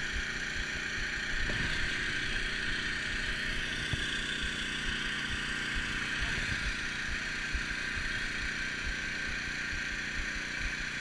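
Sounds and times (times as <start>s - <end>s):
small generator engine running: 0.0s - 11.0s.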